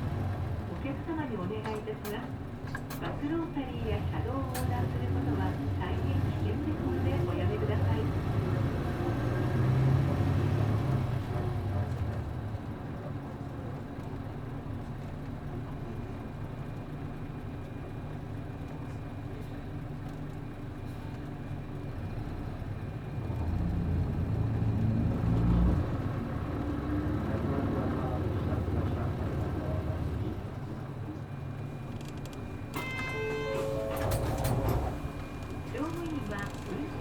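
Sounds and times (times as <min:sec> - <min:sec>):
bus diesel engine: 0:00.0 - 0:37.0.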